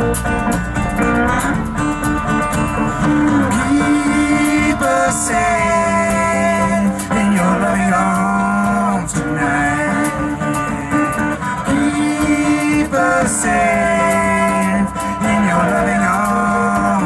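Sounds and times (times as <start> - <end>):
acoustic guitar: 0.0 - 17.0
drums playing: 0.0 - 17.0
electric guitar: 0.0 - 17.0
long-held bending melody line: 0.0 - 17.0
upright bass: 0.0 - 17.0.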